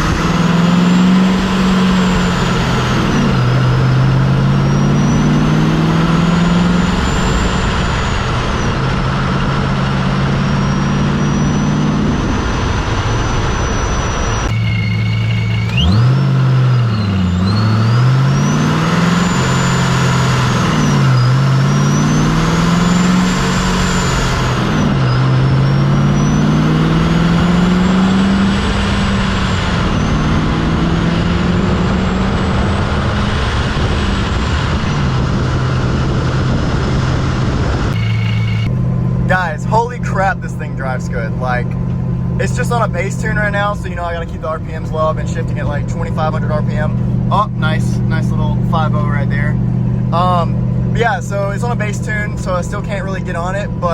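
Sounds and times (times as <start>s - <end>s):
car engine revving through gears: 0.0s - 53.9s
supercharger whine: 0.0s - 53.9s.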